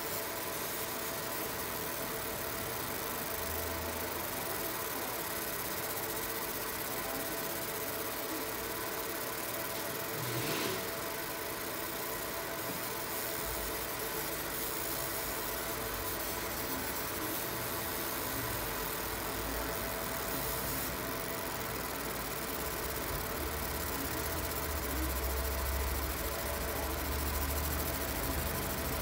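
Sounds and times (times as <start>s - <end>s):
laser machine electrical hum: 0.0s - 29.0s.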